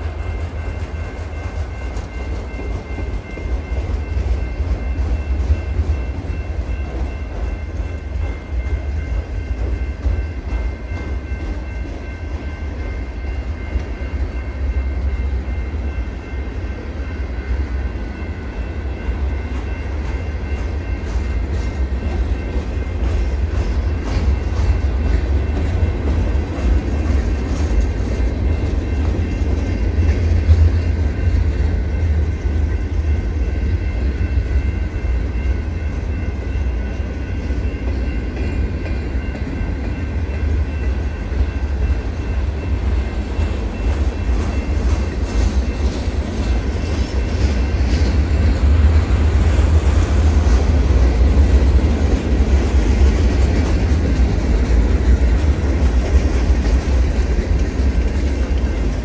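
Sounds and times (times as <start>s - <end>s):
freight cars rolling on rails: 0.0s - 59.0s.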